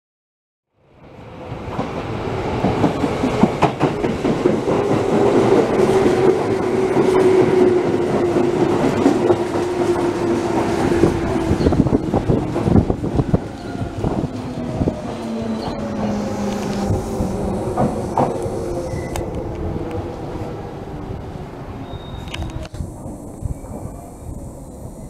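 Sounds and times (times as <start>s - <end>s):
electric train passing: 0.8s - 25.0s.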